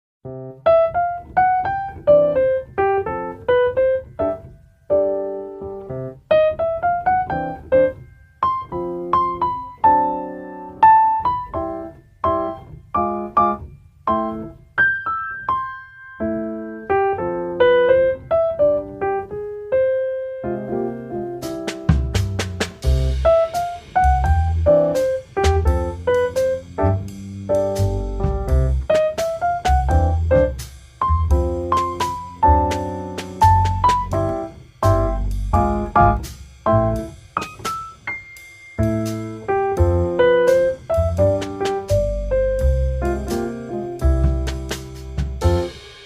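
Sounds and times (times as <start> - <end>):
solo piano melody: 0.2 - 46.0.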